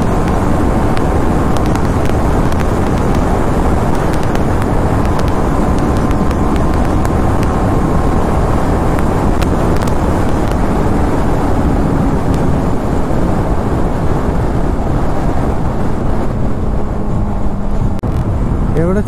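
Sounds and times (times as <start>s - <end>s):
motorcycle engine running: 0.0s - 18.2s
wind rush and road noise: 0.0s - 19.0s.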